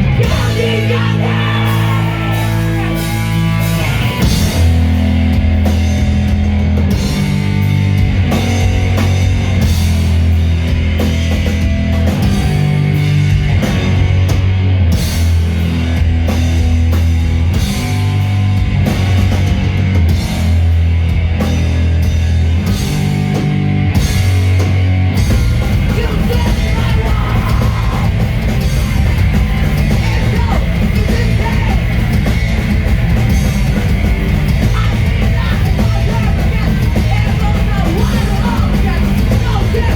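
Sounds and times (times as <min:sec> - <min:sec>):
heavy rock music: 0:00.0 - 0:39.9.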